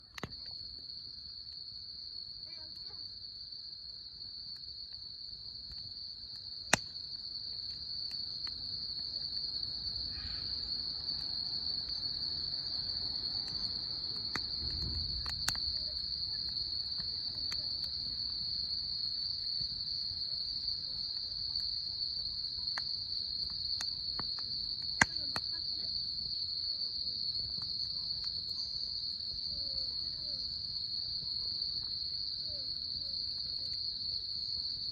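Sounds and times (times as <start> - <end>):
insect chorus trilling: 2.0 - 34.9.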